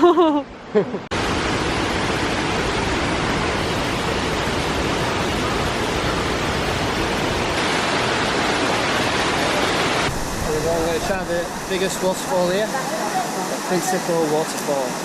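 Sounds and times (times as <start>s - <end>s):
waterfall rushing: 1.0s - 15.0s.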